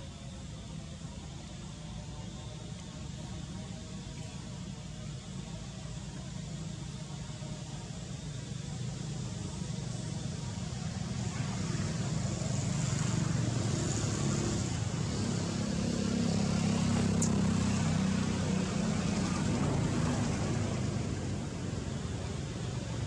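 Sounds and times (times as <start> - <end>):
outdoor noise: 0.0 - 23.0.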